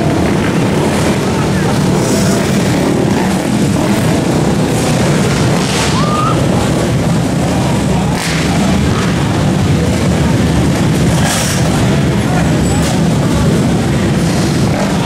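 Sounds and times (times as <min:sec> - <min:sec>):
crowd noise: 0:00.0 - 0:15.0
small motorcycle engines rumbling: 0:00.0 - 0:15.0.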